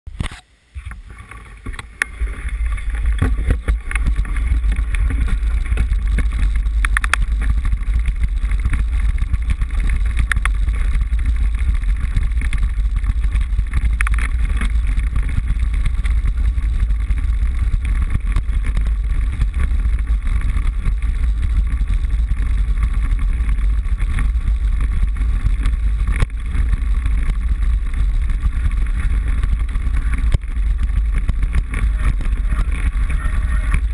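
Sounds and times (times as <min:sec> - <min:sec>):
wind rumble and rattle: 0:00.1 - 0:33.9
bike knocking over bumps: 0:00.8 - 0:33.9.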